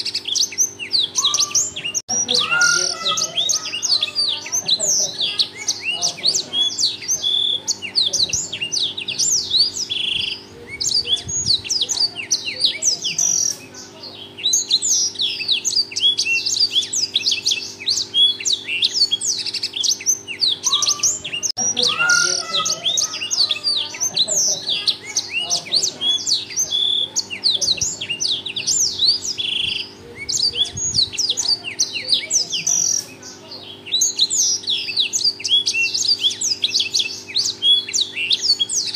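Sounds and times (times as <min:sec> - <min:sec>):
canary singing rapid trills: 0:00.0 - 0:38.9.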